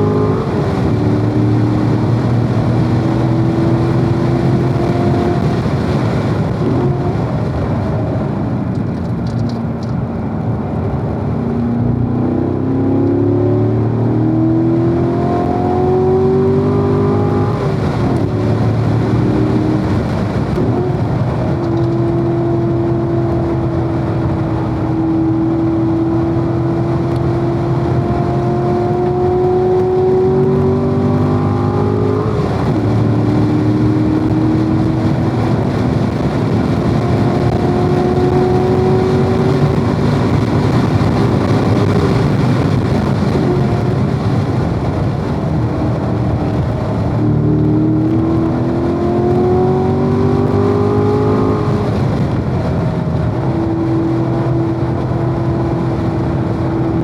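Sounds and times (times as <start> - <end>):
racing car engine accelerating: 0.0 - 8.6, 9.3 - 57.0.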